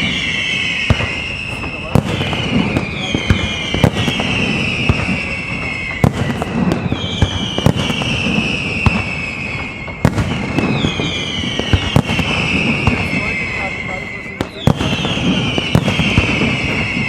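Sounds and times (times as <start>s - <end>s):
firework bangs: 0.0s - 17.0s
firework crackle: 0.0s - 17.0s
whistling firework shells: 0.0s - 17.0s.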